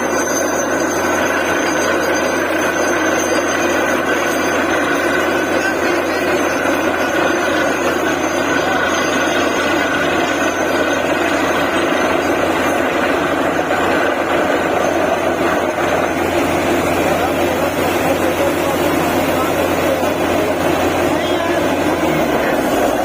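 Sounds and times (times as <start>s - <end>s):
drilling rig engine drone: 0.0s - 23.0s.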